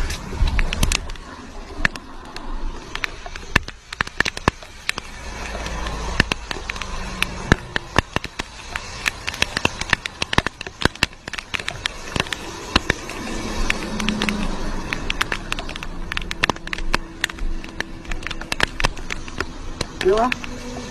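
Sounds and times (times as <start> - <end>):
low rumble: 0.0 - 20.9
sharp clicks and crackles: 0.0 - 20.9
wind and road noise: 0.0 - 20.9.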